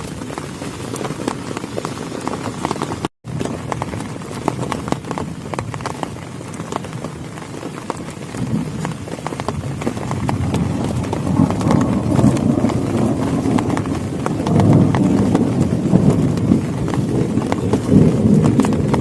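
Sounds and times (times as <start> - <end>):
heavy rain on a plastic tarp: 0.0 - 19.0.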